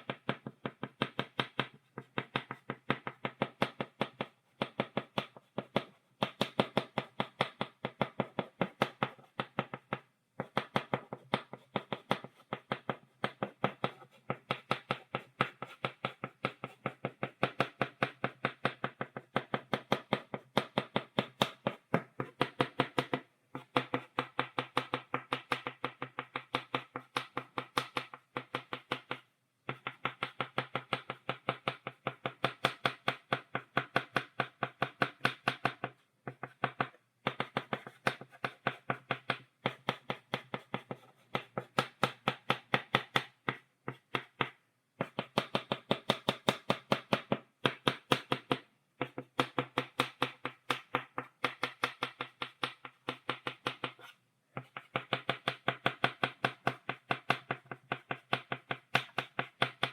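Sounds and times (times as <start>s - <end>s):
chalk tapping on blackboard: 0.0s - 59.9s.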